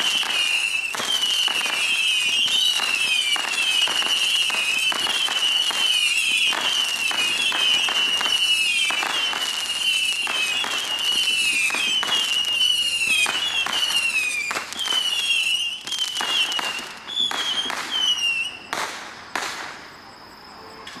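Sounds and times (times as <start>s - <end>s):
firework pops and bangs: 0.0s - 20.1s
whistling firework missiles: 0.0s - 21.0s.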